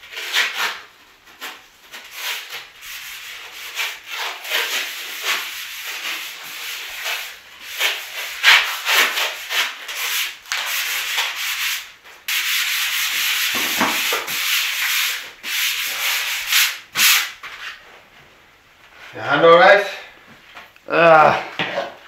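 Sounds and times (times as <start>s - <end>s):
sandpaper rubbing: 0.1s - 17.8s.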